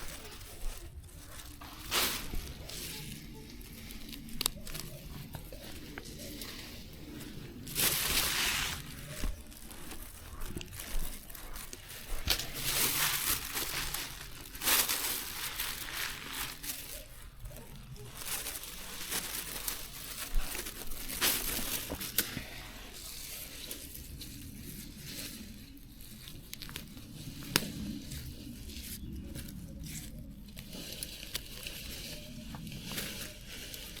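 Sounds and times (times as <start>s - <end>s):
crackling: 0.0s - 34.0s
plants being torn and rustled: 0.0s - 34.0s.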